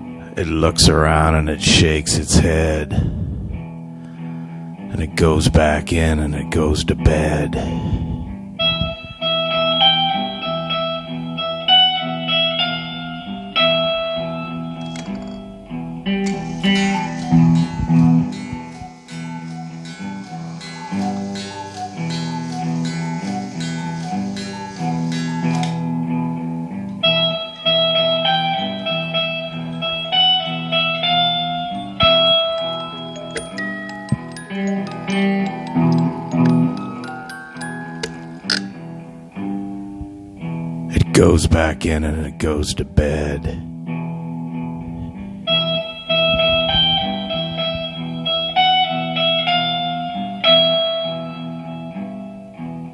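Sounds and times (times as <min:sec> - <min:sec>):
plucked guitar melody: 0:00.0 - 0:52.9.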